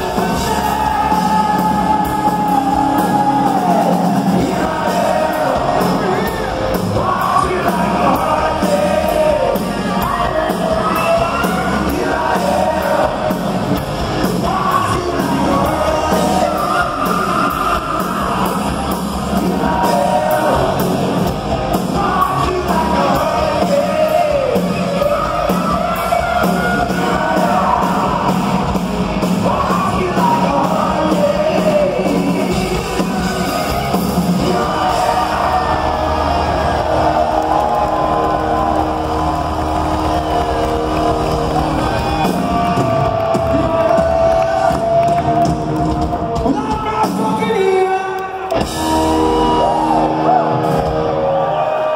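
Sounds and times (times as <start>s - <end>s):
distorted electric guitar: 0.0s - 47.7s, 48.4s - 51.8s
steady drum beat: 0.0s - 47.9s.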